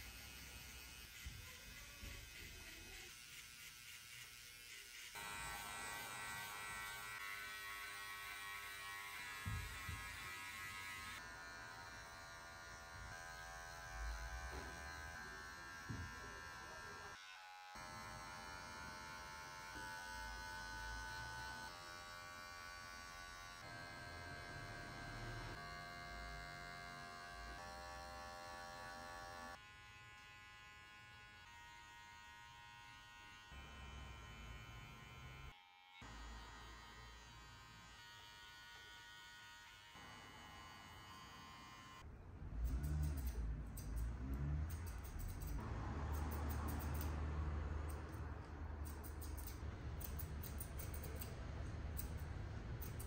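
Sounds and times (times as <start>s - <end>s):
electric hair clippers buzzing: 0.0s - 53.0s.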